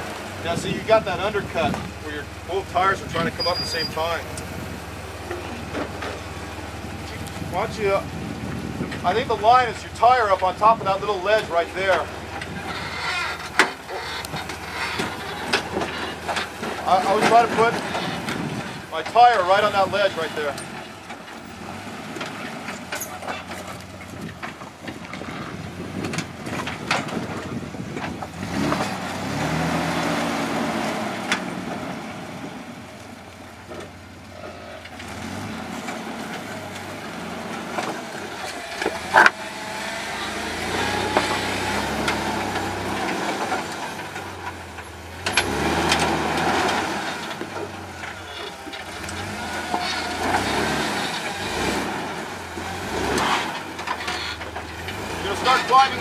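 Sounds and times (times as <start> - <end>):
engine revving in surges: 0.0 - 56.0.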